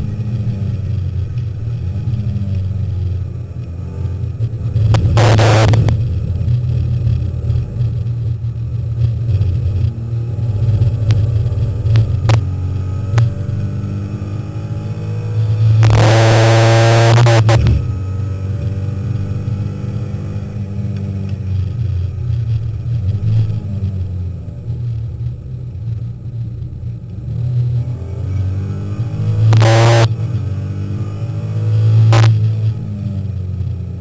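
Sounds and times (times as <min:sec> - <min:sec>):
race car engine droning: 0:00.0 - 0:34.0.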